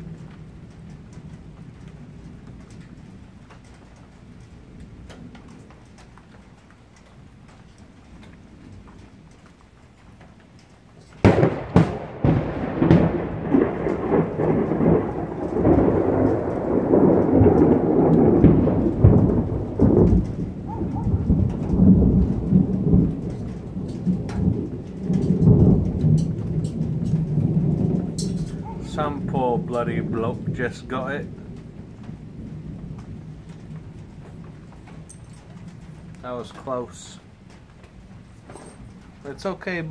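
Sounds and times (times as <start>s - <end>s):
faint rain: 0.0s - 39.9s
thunder crack and rumble: 0.0s - 39.9s.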